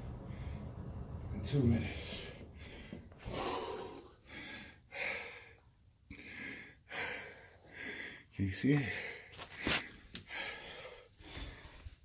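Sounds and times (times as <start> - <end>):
man breathing hard: 2.0 - 12.0.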